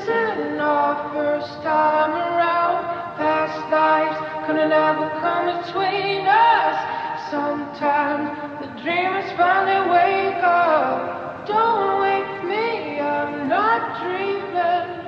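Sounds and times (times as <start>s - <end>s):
woman singing wordless melody: 0.0s - 15.0s.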